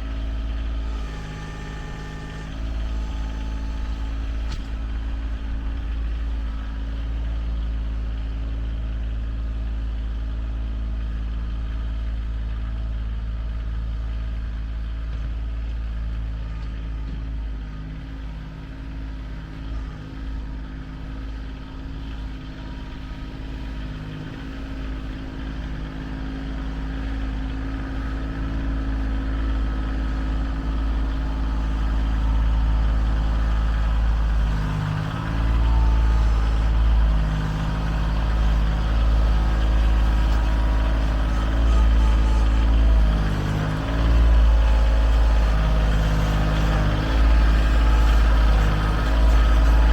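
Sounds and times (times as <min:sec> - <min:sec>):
heavy engine running: 0:00.0 - 0:49.9.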